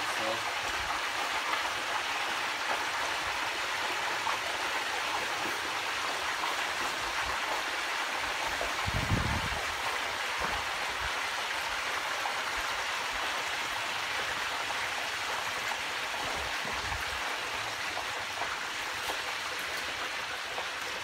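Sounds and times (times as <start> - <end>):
hot oil bubbling and sizzling: 0.0 - 21.0.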